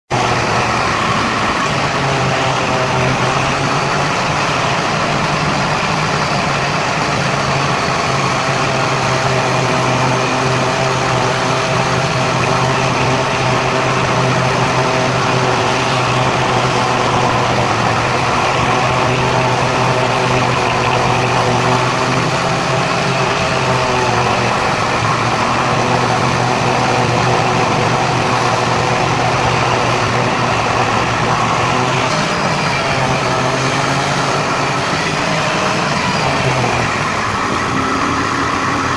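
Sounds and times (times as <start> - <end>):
car engine: 0.0 - 38.9
road noise: 0.0 - 38.9
low hum: 0.1 - 38.9.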